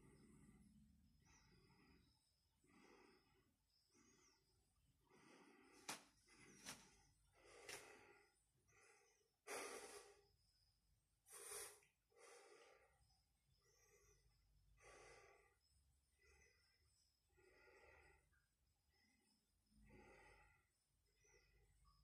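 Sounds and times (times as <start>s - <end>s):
man breathing softly: 0.0s - 22.0s.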